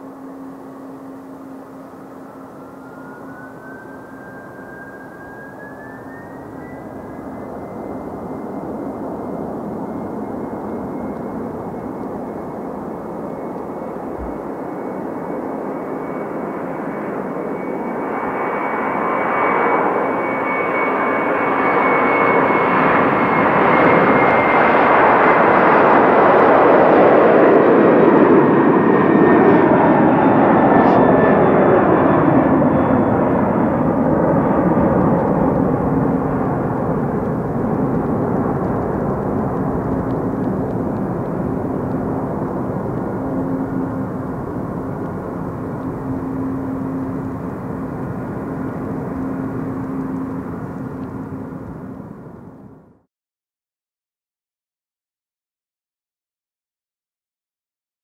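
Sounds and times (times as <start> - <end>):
jet engines roaring: 0.0 - 52.8
high jet whine: 0.0 - 53.0.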